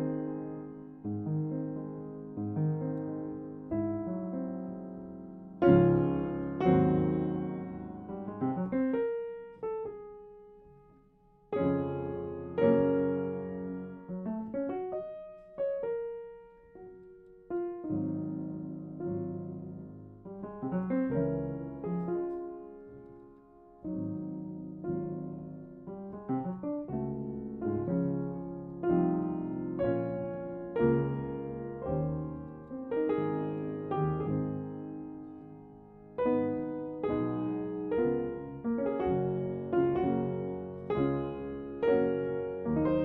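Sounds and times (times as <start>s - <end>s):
solo piano piece: 0.0s - 43.0s.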